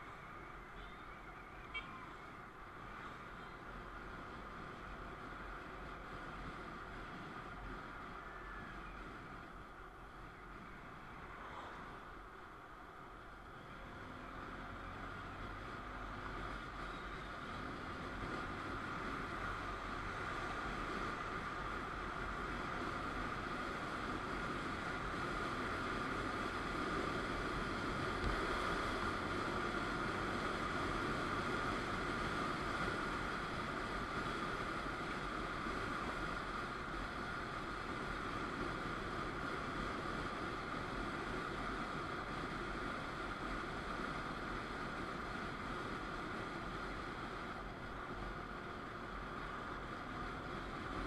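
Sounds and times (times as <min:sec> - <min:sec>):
motorcycle engine hum: 0:00.0 - 0:51.0
wind and road noise: 0:00.0 - 0:51.0.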